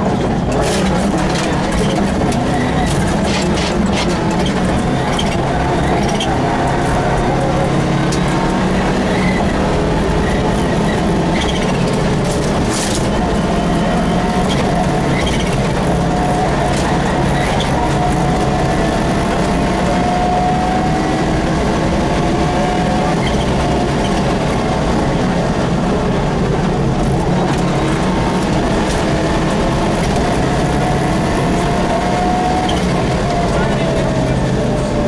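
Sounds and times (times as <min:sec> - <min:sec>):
rally car engine running hard: 0:00.0 - 0:35.0.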